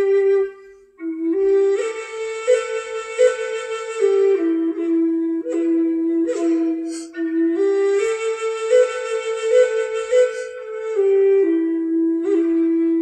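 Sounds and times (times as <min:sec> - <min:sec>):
solo flute melody: 0:00.0 - 0:13.0.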